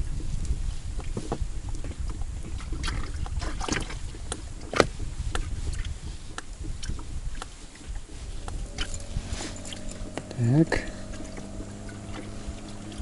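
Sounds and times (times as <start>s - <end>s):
water lapping around boat: 0.0s - 13.0s
wind rumble: 0.0s - 13.0s.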